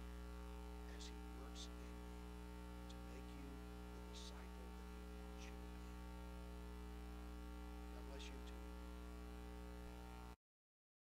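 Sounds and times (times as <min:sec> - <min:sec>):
electrical mains hum: 0:00.0 - 0:10.4.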